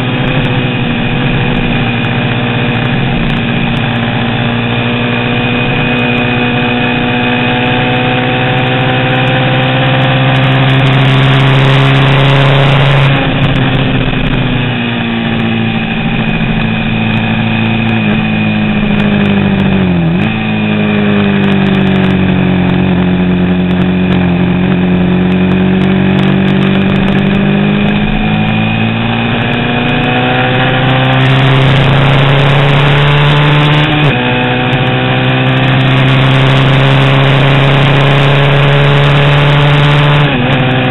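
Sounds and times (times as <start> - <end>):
motorcycle engine running hard: 0.0 - 40.9.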